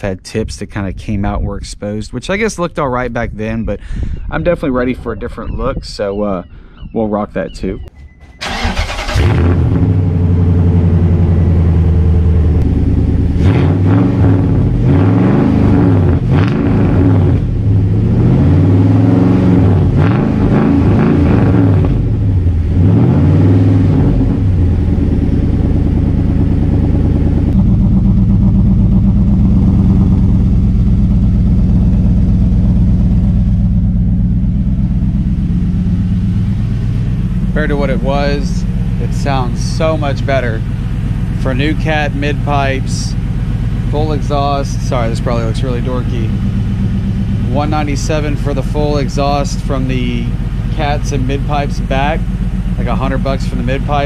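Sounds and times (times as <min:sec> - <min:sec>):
pickup truck engine revving and idling: 0:08.4 - 0:54.0.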